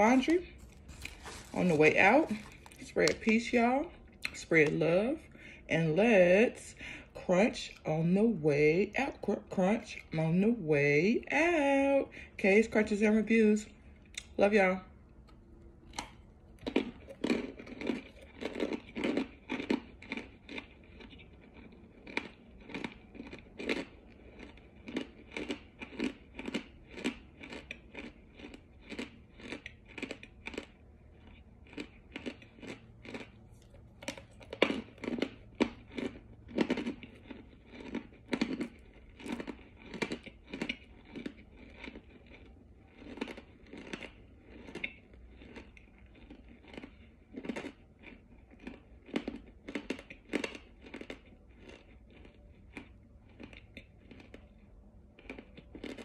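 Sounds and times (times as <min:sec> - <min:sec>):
crisp crunching while chewing: 0:00.0 - 0:05.6, 0:15.2 - 0:56.0.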